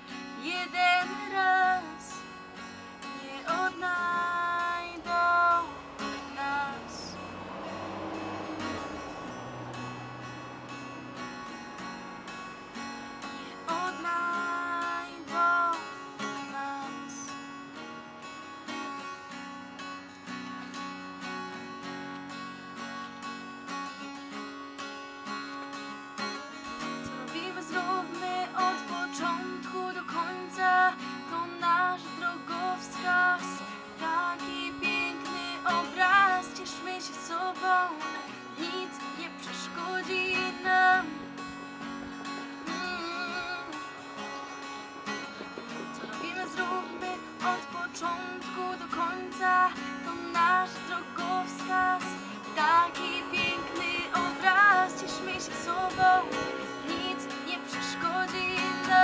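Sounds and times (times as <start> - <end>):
acoustic guitar strumming chords: 0.0 - 59.0
higher guitar melody line: 0.0 - 59.0.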